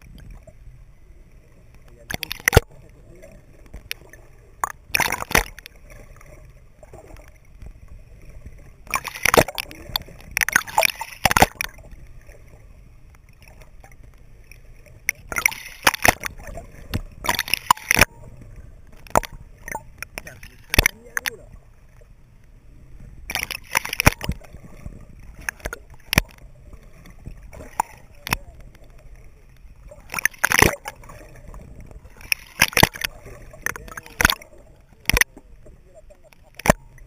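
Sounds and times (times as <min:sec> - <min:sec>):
low steady hiss: 0:00.0 - 0:37.0
water sloshing and splashing: 0:01.3 - 0:37.0.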